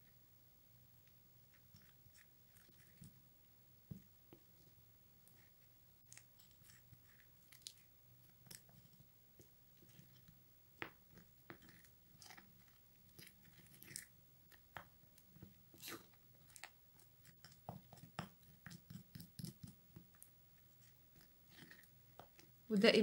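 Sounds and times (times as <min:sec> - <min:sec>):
plastic spoon stirring paste: 0:01.0 - 0:23.0.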